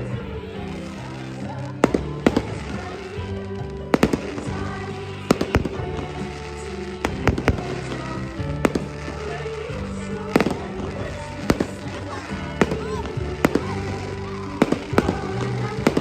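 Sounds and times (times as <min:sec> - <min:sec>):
fireworks bangs: 0:00.0 - 0:16.0
music playing: 0:00.0 - 0:16.0.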